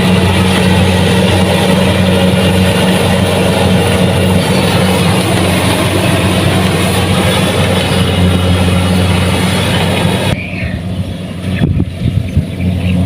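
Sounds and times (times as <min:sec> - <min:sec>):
deep engine hum: 0:00.0 - 0:13.0
hissing mechanical clatter: 0:00.0 - 0:13.0.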